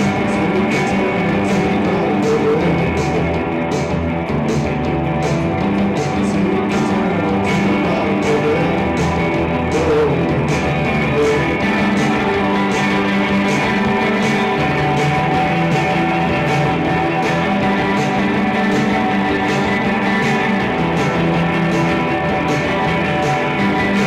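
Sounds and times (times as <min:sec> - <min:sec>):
drums: 0:00.0 - 0:24.0
electric guitar: 0:00.0 - 0:24.0.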